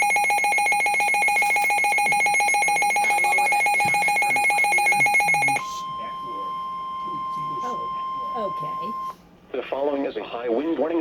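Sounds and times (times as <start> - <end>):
rapidly pulsing electronic alarm beep: 0.0 - 9.2.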